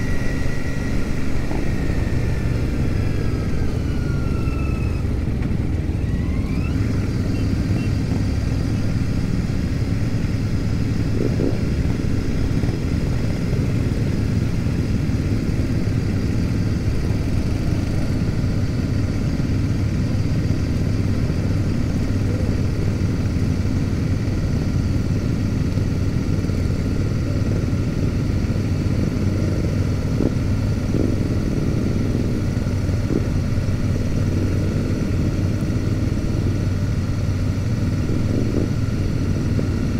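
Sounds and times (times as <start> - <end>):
motorcycle engine running steadily: 0.0 - 39.9
other motorcycles: 0.0 - 39.9.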